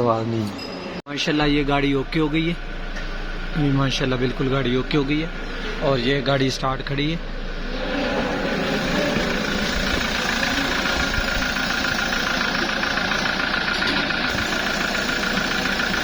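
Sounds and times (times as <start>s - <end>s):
engine idling: 1.2s - 16.0s.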